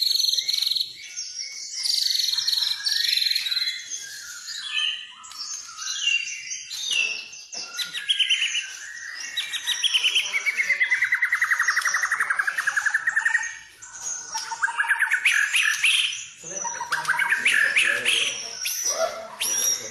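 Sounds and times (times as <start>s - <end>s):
songbird whistling and trilling: 0.0s - 19.9s.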